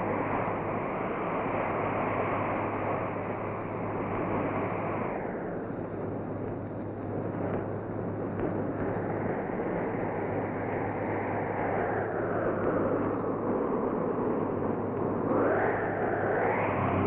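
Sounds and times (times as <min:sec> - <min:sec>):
blizzard wind gusting: 0:00.0 - 0:17.0.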